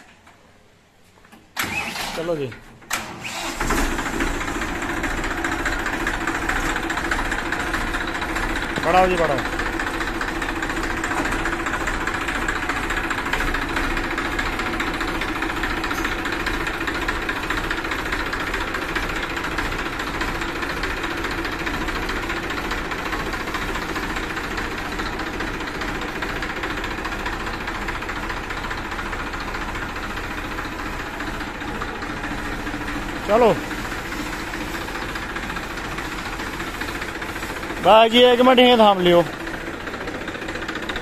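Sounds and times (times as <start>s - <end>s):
tractor diesel engine running: 1.6s - 41.0s.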